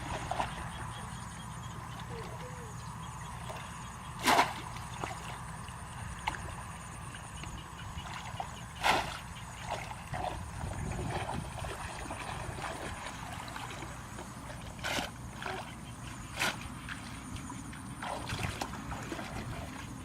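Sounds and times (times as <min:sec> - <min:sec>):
steady low rumble: 0:00.0 - 0:20.0
water splashing and trickling: 0:03.4 - 0:20.0.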